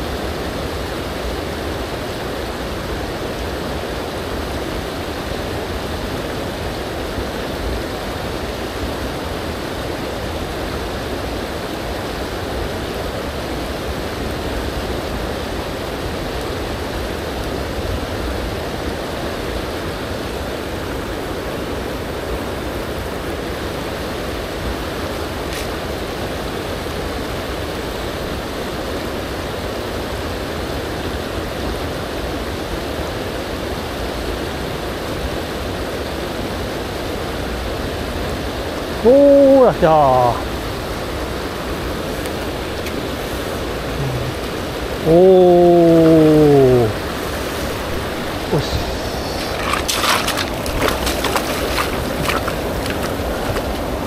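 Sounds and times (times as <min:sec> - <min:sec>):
river rushing over stones: 0:00.0 - 0:54.0.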